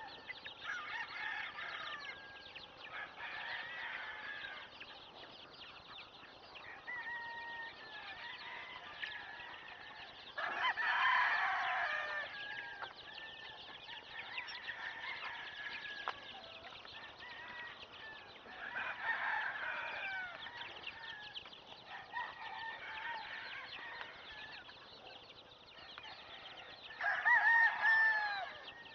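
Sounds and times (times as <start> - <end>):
chickens chirping and clucking: 0.0 - 28.9
roosters crowing: 0.0 - 28.9.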